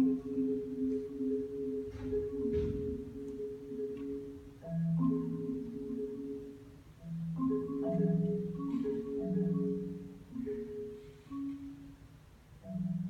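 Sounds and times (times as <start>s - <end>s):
marimba playing slow chords: 0.0s - 13.0s.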